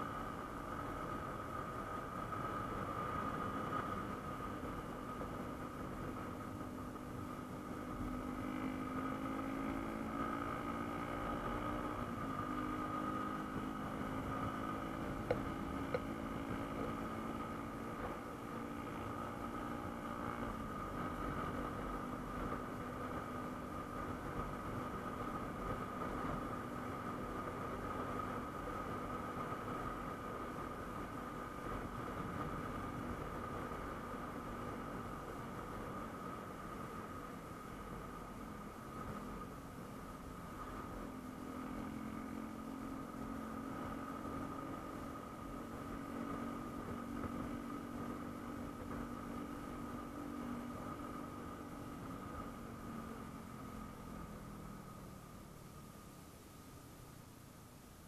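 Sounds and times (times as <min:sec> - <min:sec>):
motorcycle engine running: 0:00.0 - 0:56.2.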